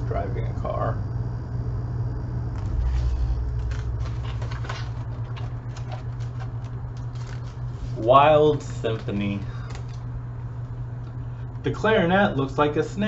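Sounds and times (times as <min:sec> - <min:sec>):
deep rumble: 0:00.0 - 0:11.7
steady low hum: 0:00.0 - 0:13.0.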